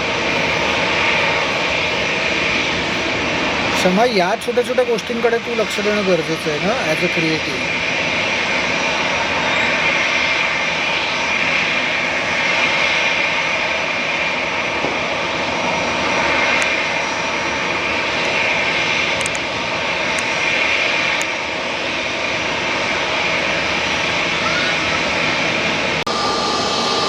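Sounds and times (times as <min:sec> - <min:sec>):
jet engine roar of landing plane: 0:00.0 - 0:27.0.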